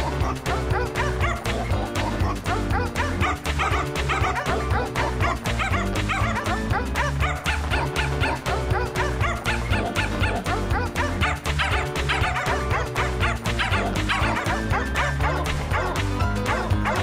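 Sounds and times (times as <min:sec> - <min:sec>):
upbeat background music: 0:00.0 - 0:17.0
dog yipping and barking: 0:02.8 - 0:17.0.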